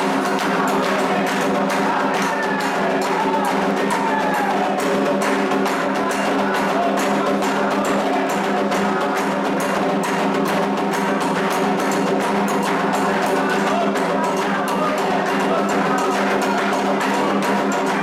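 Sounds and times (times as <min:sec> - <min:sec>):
hand drums playing fast rhythm: 0:00.0 - 0:18.0.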